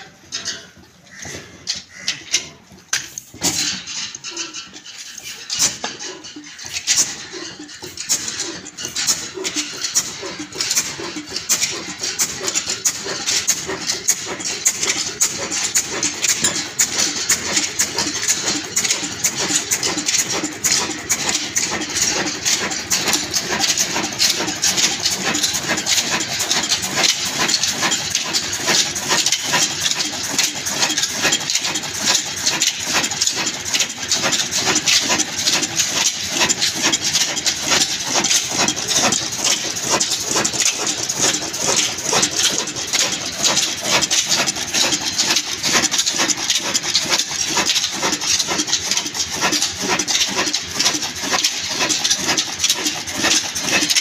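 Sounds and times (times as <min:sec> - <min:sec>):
diesel engine knocking: 0:05.6 - 0:54.0.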